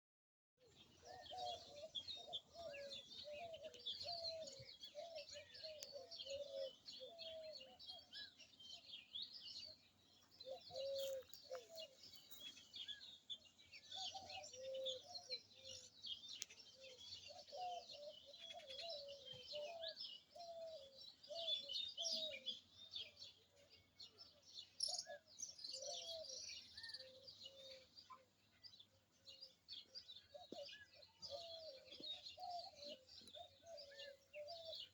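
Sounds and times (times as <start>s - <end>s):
birds chirping chorus: 0.6s - 34.9s.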